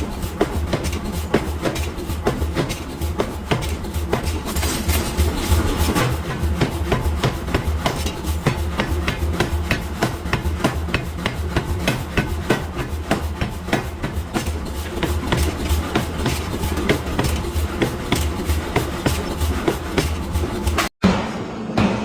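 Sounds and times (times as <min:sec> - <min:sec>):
hammer striking steel: 0:00.0 - 0:22.0.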